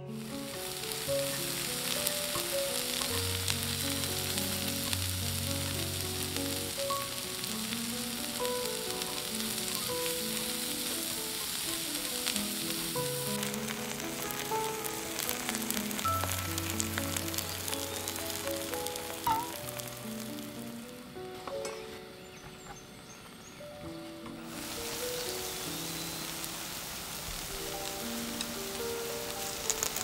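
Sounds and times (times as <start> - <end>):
vegetables sizzling in a wok: 0.0 - 22.4, 24.0 - 30.0
soft background music: 0.0 - 30.0.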